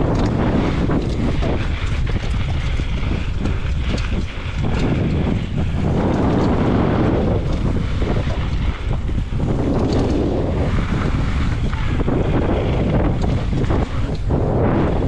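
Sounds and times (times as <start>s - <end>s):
bike knocks and rattles: 0.0s - 15.0s
tyres rumbling on dirt: 0.0s - 15.0s
wind rushing over microphone: 0.0s - 15.0s.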